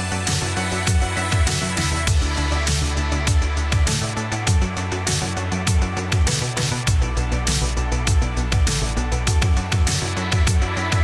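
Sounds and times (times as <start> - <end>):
crisp percussion: 0.0 - 11.0
electronic music with steady beat: 0.0 - 11.0.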